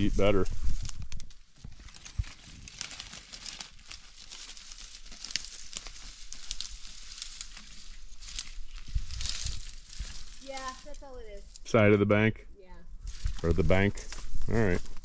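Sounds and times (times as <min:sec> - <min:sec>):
footsteps through dry grass: 0:00.0 - 0:11.6, 0:12.9 - 0:15.0
dry grass crackling and rustling: 0:00.0 - 0:11.8, 0:12.8 - 0:15.0.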